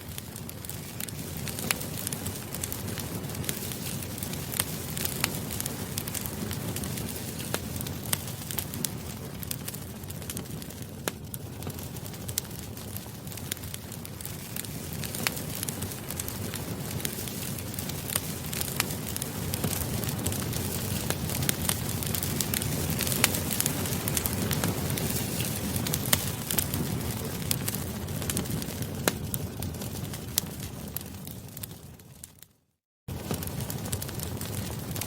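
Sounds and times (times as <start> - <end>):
campfire crackling and popping: 0.0 - 32.5, 33.1 - 35.0.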